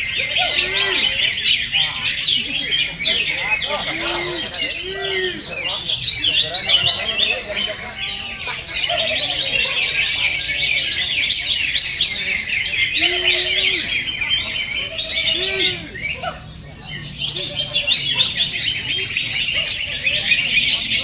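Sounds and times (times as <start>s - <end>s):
birds chattering song: 0.0s - 21.0s.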